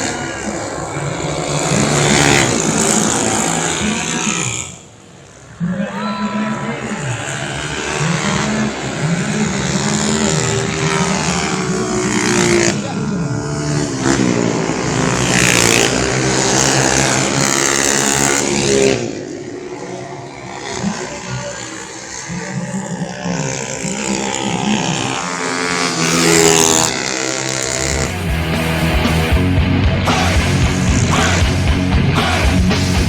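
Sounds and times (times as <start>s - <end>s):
racing scooter engines revving: 0.0s - 33.0s.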